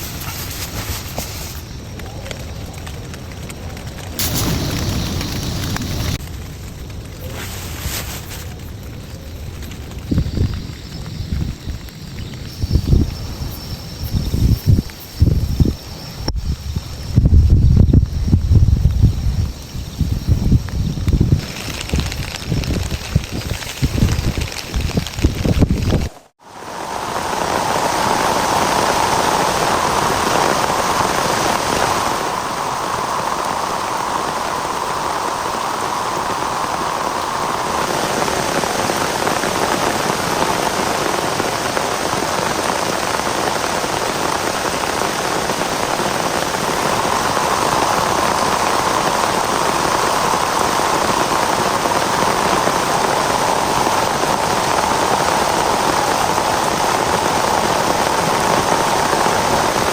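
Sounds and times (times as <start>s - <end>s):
heavy rain falling: 0.0s - 13.4s, 20.5s - 59.9s.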